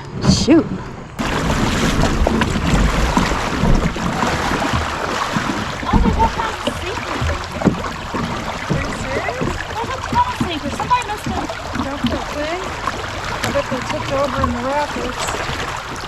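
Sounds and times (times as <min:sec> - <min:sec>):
kayak running aground: 0:00.3 - 0:16.0
river rapids rushing and gurgling: 0:01.2 - 0:16.0.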